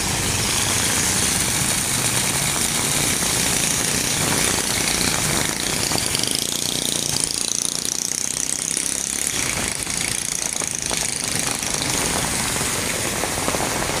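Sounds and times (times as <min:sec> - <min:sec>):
heavy rain on street: 0:00.0 - 0:14.0.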